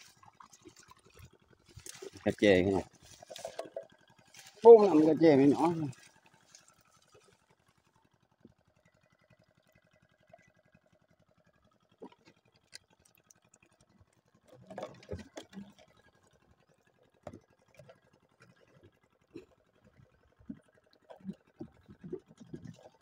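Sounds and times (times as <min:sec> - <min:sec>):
water splashing and rustling: 0:00.0 - 0:08.5, 0:11.7 - 0:23.0.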